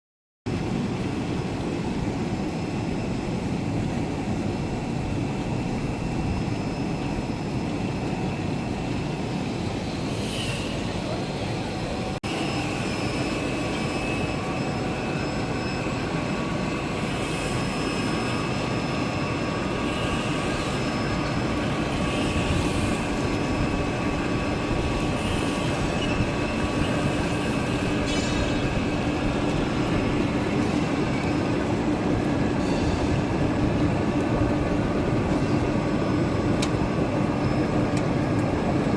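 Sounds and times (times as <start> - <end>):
machine hum and whine: 0.5 - 38.9.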